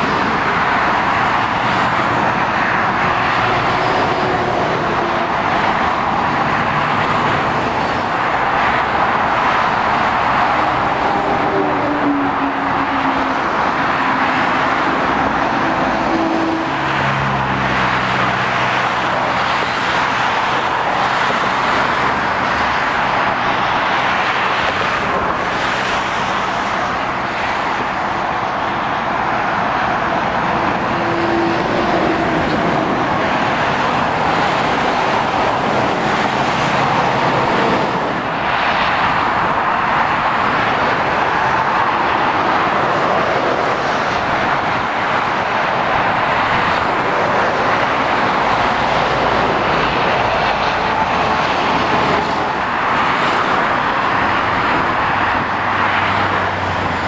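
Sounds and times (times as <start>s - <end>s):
diesel lorry engine drone: 0.0s - 57.0s
tyre roar of passing traffic: 0.0s - 57.0s.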